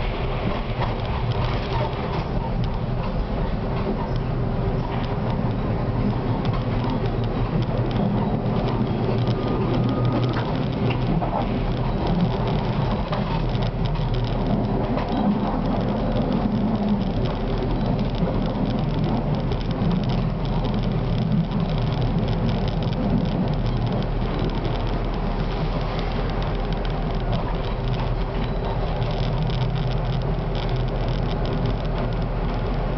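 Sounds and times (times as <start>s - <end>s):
tram wheels rumbling on rail: 0.0s - 32.9s.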